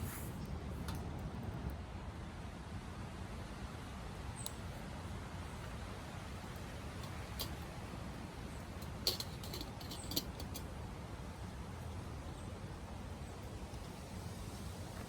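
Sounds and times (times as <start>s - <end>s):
wood stove fire rumble: 0.0s - 15.0s.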